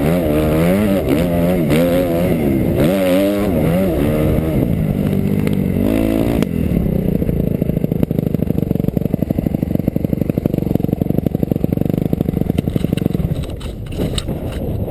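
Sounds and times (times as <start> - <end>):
motocross bike engine chugging: 0.0 - 14.2.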